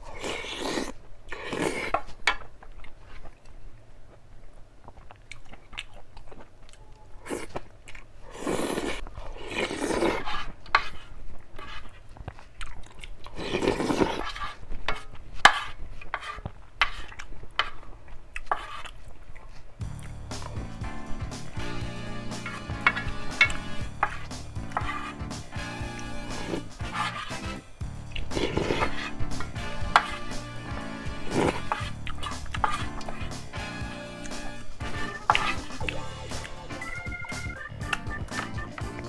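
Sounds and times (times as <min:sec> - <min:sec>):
chewing and crunching food: 0:00.0 - 0:37.3.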